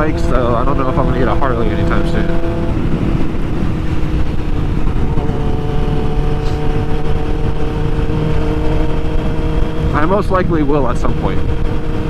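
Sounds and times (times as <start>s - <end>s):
motorcycle engine cruising: 0.0s - 12.0s
wind rushing over microphone: 0.0s - 12.0s.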